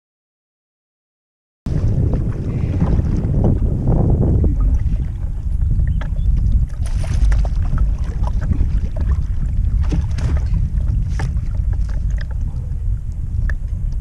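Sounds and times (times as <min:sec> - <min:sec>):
water splashing against boat: 0:01.7 - 0:14.0
wind rumbling on microphone: 0:01.7 - 0:14.0.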